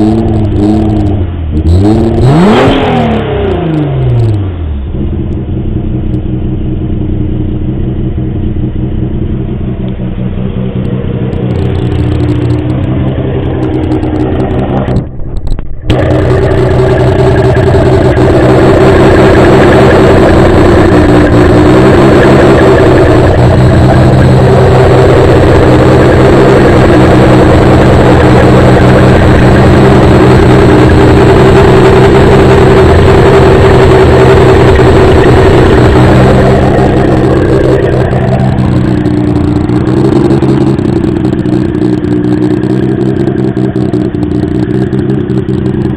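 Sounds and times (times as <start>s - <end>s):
car engine exhaust idling: 0.0s - 45.9s.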